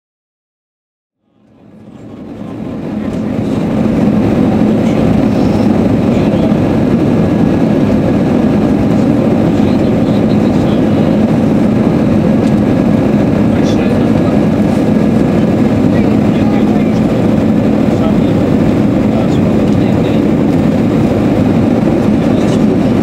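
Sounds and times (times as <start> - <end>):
airplane cabin engine rumble: 1.2 - 23.0.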